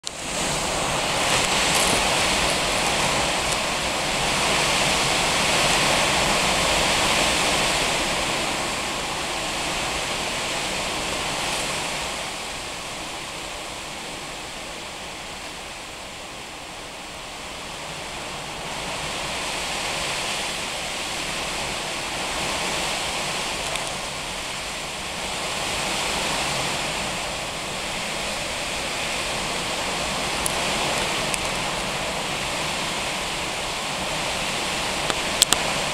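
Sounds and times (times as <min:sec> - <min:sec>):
gusty wind rushing through trees: 0:00.0 - 0:35.9.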